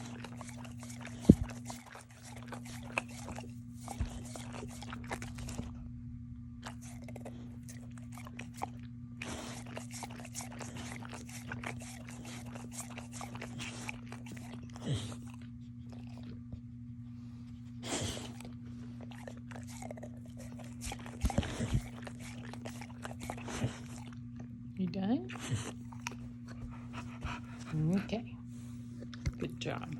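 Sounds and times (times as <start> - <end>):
dog chewing crunchy snack: 0.0 - 5.9, 6.6 - 16.7, 17.6 - 28.0, 28.7 - 29.9
low electrical hum: 0.0 - 29.9.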